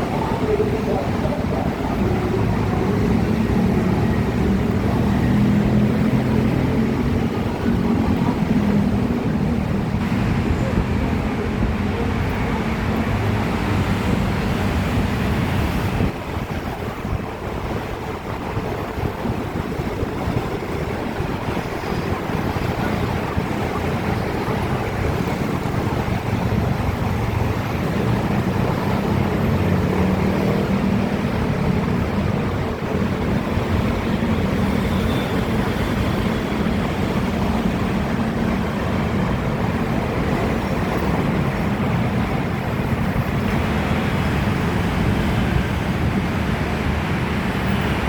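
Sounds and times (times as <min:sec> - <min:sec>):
electric train rumble: 0:00.0 - 0:48.0
track noise: 0:00.0 - 0:48.0.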